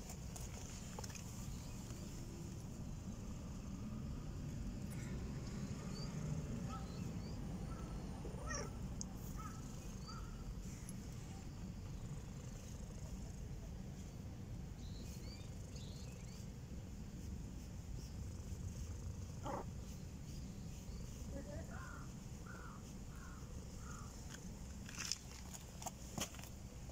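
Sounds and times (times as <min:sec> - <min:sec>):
cat purring: 0:00.3 - 0:24.8.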